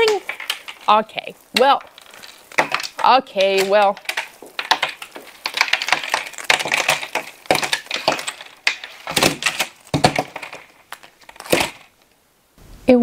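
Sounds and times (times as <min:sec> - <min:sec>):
pieces clattering on table: 0:00.0 - 0:12.1
puzzle pieces crackling apart: 0:00.0 - 0:12.2.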